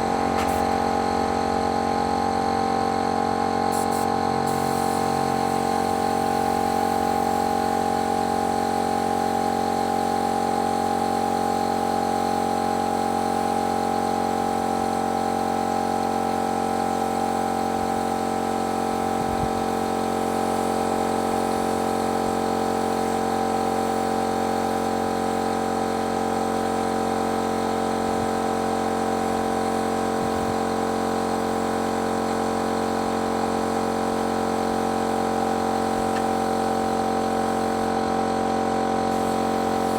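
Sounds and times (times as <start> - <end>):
spray-painting machine humming: 0.0 - 39.9.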